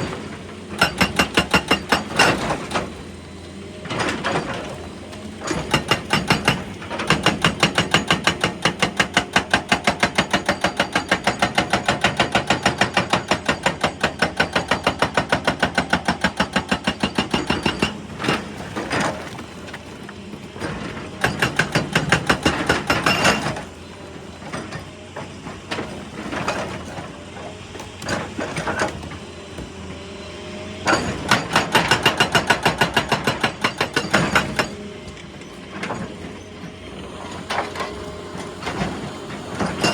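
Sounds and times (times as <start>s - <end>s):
hydraulic breaker hammering rock: 0.0s - 3.2s, 3.8s - 39.9s.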